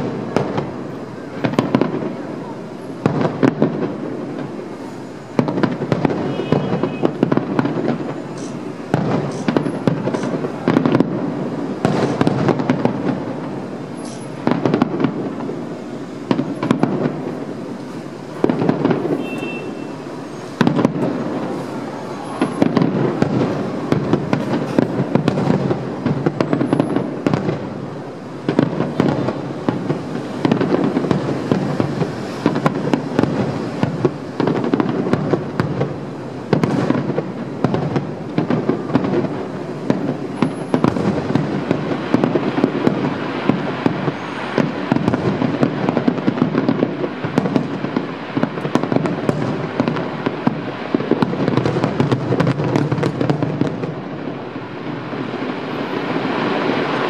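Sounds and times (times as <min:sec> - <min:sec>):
fireworks bursting: 0:00.0 - 0:57.0
fireworks crackling: 0:00.0 - 0:57.0.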